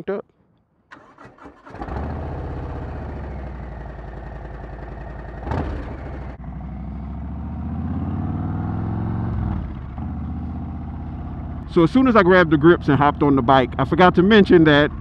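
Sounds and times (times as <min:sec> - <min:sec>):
motorcycle engine idling: 0:01.8 - 0:15.0.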